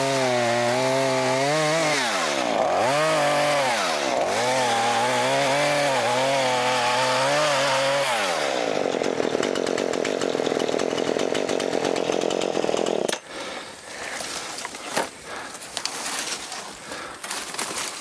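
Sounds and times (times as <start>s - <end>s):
chainsaw idling: 0.0s - 16.0s, 16.6s - 17.4s.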